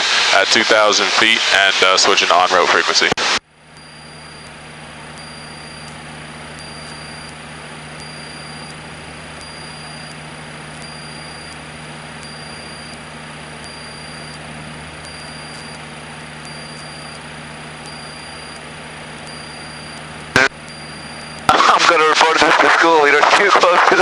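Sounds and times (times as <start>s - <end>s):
airplane engine and propeller droning: 0.0s - 24.0s.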